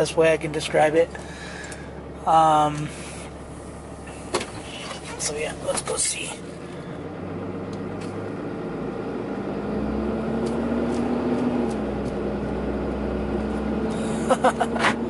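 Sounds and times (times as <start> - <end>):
truck engine hum: 0.0 - 15.0.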